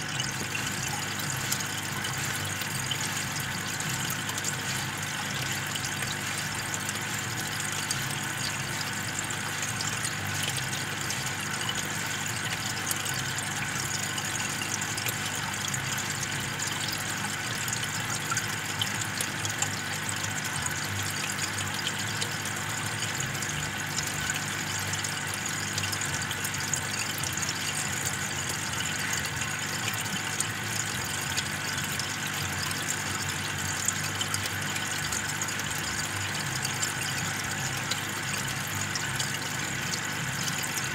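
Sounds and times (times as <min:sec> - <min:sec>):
air pump humming: 0:00.0 - 0:40.9
air stone bubbling in water: 0:00.0 - 0:40.9.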